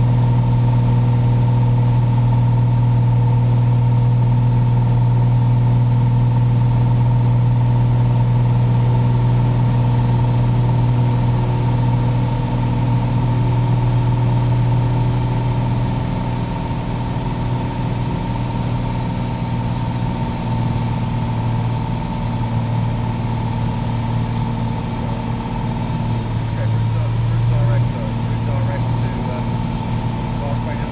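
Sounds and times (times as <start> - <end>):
propeller plane engine droning: 0.0 - 30.9.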